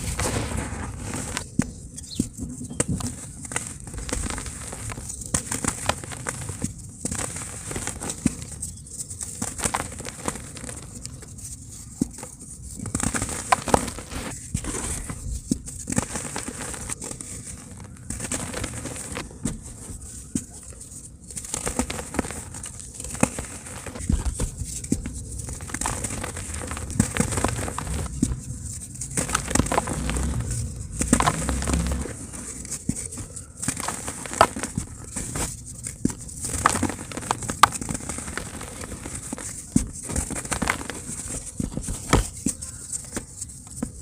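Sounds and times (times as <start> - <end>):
dry cement crumbling: 2.8 - 11.2, 12.2 - 43.8.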